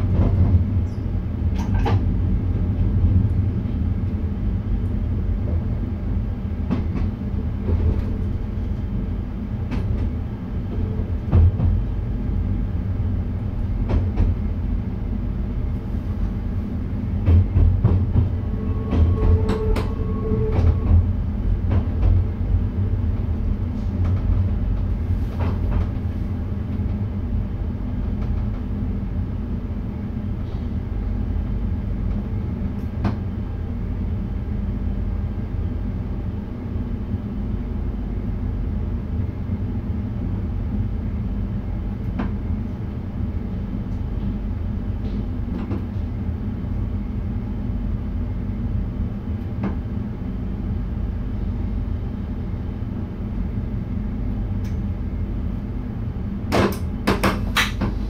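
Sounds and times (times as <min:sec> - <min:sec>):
train cab low rumble: 0:00.0 - 0:58.0.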